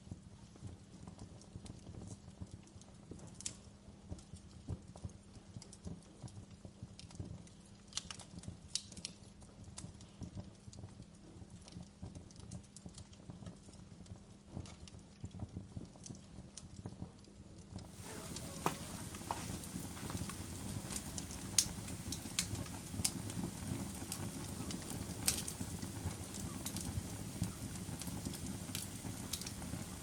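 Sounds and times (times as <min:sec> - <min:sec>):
low rumble of burning: 0:00.0 - 0:30.0
campfire crackling and popping: 0:00.6 - 0:17.0, 0:17.6 - 0:30.0.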